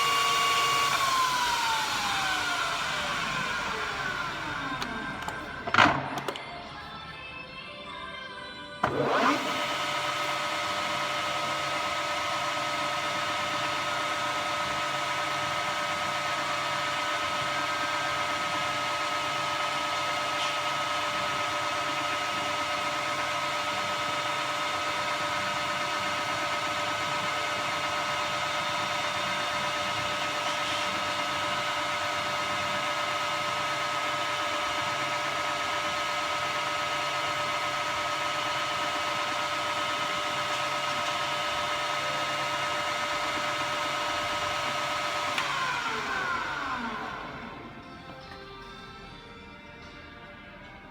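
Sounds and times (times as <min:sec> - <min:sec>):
milling machine whine: 0:00.0 - 0:07.4, 0:08.2 - 0:49.2.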